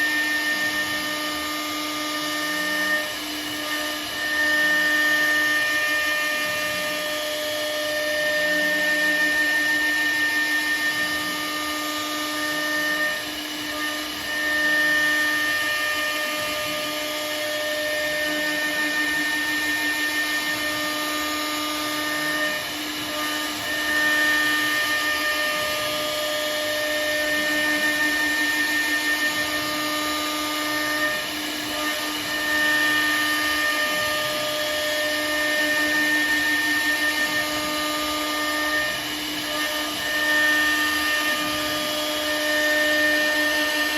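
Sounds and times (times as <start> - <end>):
router cutting noise: 0.0 - 43.9
router spindle whine: 0.0 - 43.9.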